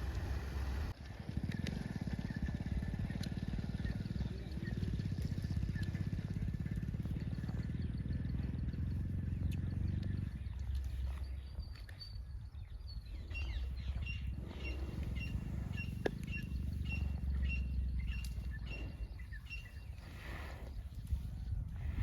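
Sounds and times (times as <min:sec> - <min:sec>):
low rumble: 0:00.0 - 0:22.0
small bird chirping: 0:03.1 - 0:21.3.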